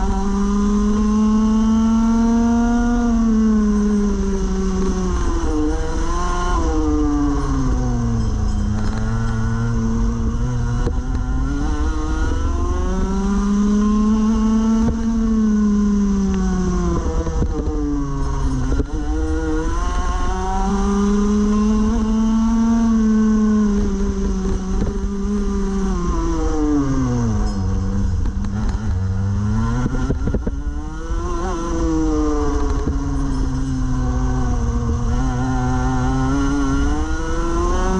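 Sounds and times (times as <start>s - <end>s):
kart engine at race speed: 0.0s - 37.9s.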